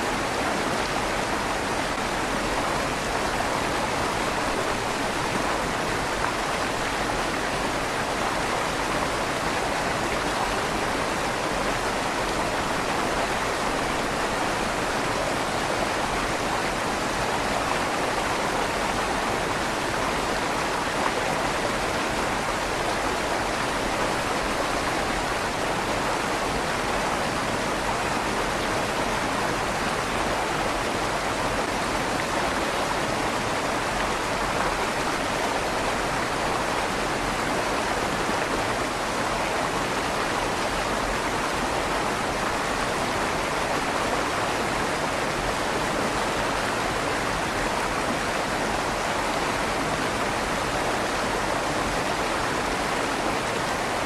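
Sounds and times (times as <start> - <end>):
river water rushing under bridge: 0.0 - 54.0.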